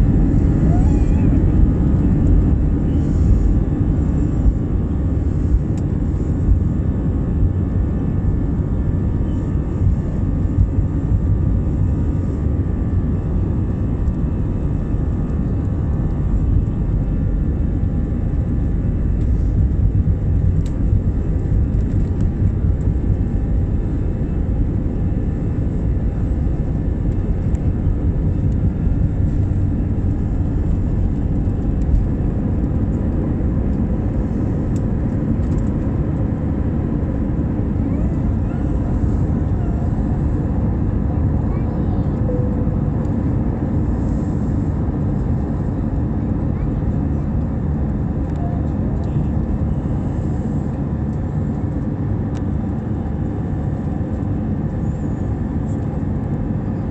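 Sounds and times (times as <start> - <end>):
jet engines rumbling with whine: 0.0 - 56.9.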